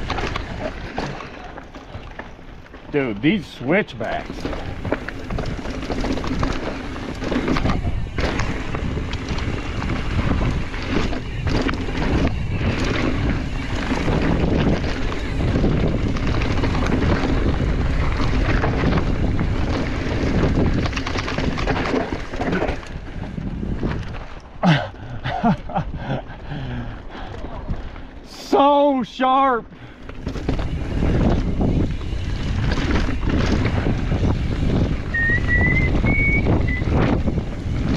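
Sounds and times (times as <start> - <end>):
bike knocks and rattles: 0.0 - 3.0, 4.1 - 25.6, 30.0 - 37.9
tyres rumbling on dirt trail: 0.0 - 37.9
wind buffeting microphone: 3.8 - 28.2, 30.0 - 37.9.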